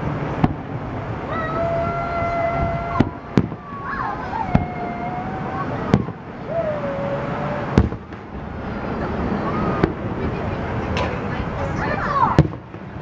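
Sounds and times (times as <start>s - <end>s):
firework bangs: 0.0s - 1.3s, 2.4s - 6.4s, 7.2s - 13.0s.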